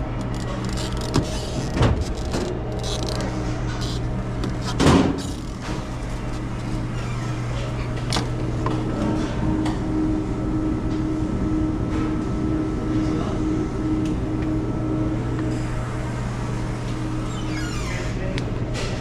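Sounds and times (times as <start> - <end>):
refrigeration equipment hum: 0.0 - 19.0.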